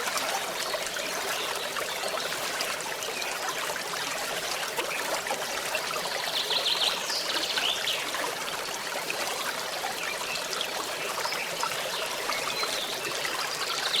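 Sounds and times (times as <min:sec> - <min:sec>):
stream trickling: 0:00.0 - 0:14.0.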